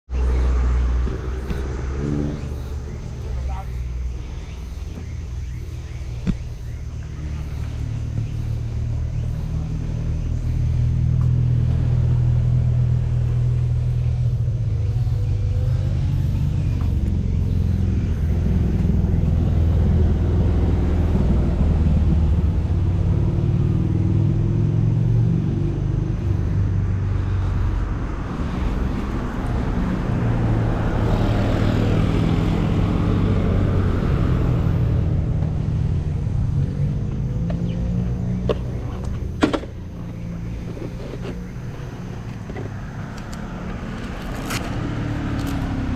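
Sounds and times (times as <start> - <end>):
road and wind noise: 0.1 - 45.9
vehicle engine droning: 0.1 - 45.9.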